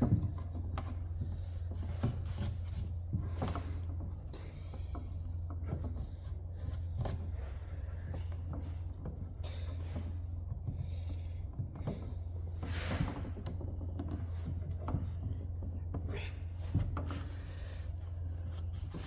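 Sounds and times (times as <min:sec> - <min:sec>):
scraping on wood: 0:00.0 - 0:19.0
steady low hum: 0:00.0 - 0:19.0.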